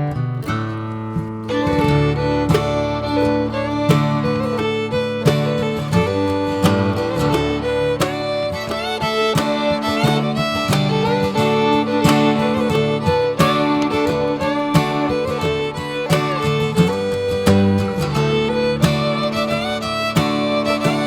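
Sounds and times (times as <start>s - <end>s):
acoustic guitar and fiddle music: 0.0s - 21.0s.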